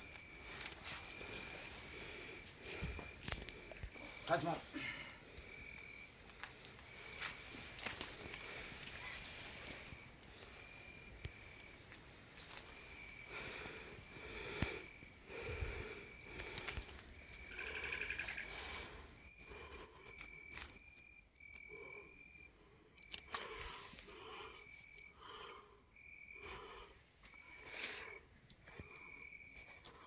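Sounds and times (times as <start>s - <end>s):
crickets trilling: 0.0s - 30.0s
lower insect chirp: 0.0s - 30.0s.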